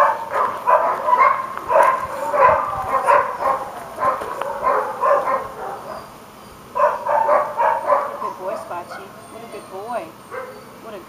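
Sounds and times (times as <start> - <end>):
dog barking: 0.0 - 6.1, 6.8 - 9.6, 10.3 - 10.8.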